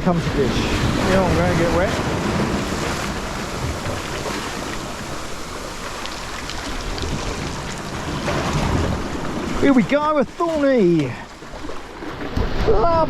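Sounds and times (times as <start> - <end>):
sea waves washing: 0.0 - 13.0
wind buffeting microphone: 0.0 - 13.0.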